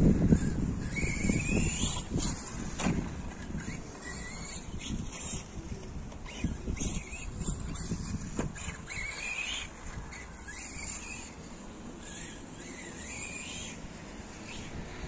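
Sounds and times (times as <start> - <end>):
rc car motor whining: 0.0 - 15.0
wind rumble on microphone: 0.0 - 15.0.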